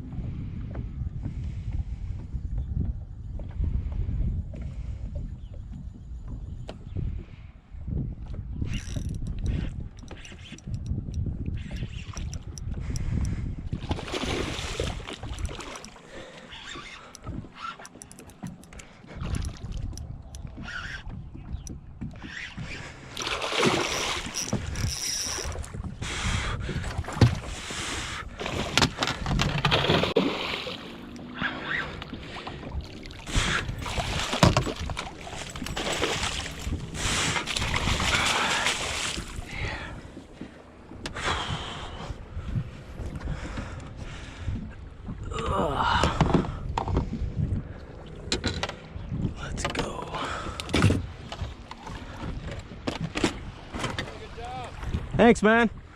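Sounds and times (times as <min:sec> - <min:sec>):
wind buffeting microphone: 0:00.0 - 0:55.9
water noise: 0:08.2 - 0:55.9.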